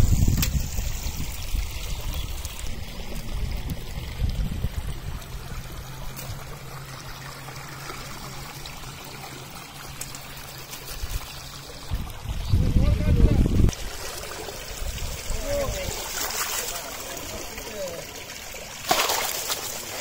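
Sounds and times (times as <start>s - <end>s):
shallow water trickling: 0.0s - 20.0s.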